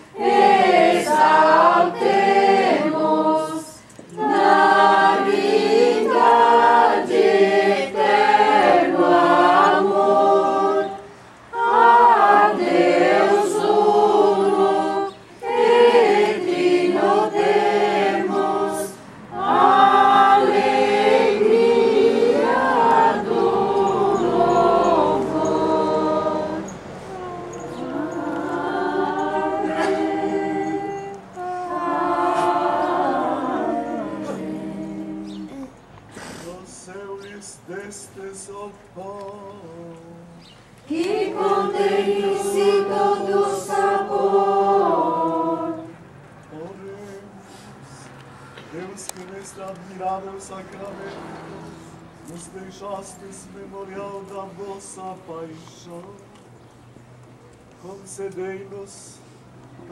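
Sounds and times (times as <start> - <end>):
crowd singing a hymn: 0.0 - 57.0, 57.7 - 59.9.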